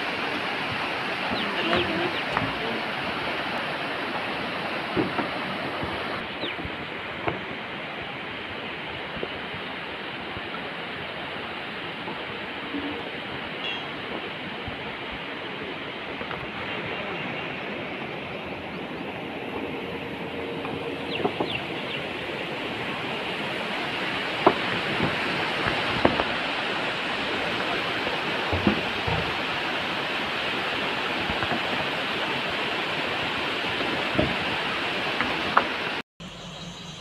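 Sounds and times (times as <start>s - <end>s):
train rushing noise: 0.0s - 36.0s.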